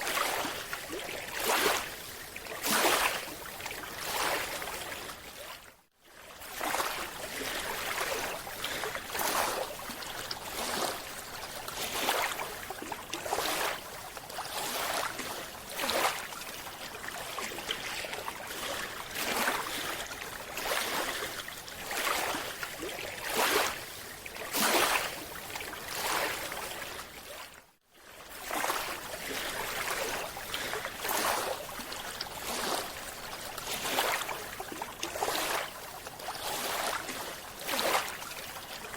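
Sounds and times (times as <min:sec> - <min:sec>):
water rushing and splashing: 0:00.0 - 0:05.5, 0:06.4 - 0:27.3, 0:28.3 - 0:38.9.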